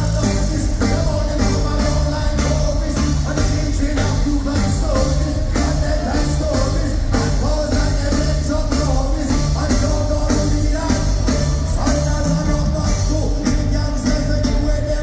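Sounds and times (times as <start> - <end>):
live reggae band: 0.0 - 15.0
person singing: 0.0 - 15.0
pulsing bass line: 0.0 - 15.0.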